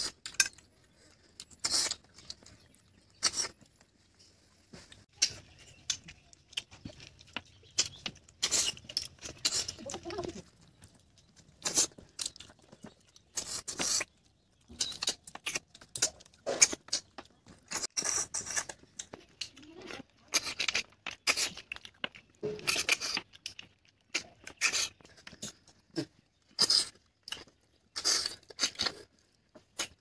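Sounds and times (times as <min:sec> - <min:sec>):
chewing: 0:00.0 - 0:30.0
snails slurped from shells: 0:00.0 - 0:30.0.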